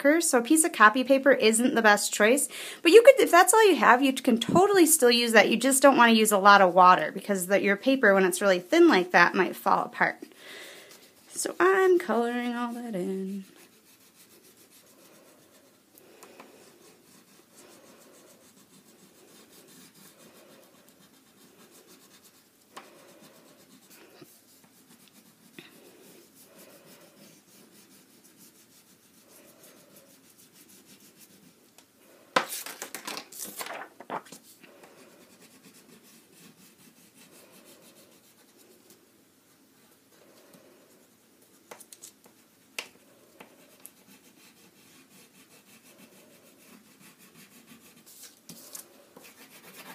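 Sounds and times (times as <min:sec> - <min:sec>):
crayon rubbing on paper: 0:07.3 - 0:32.7, 0:34.3 - 0:49.9.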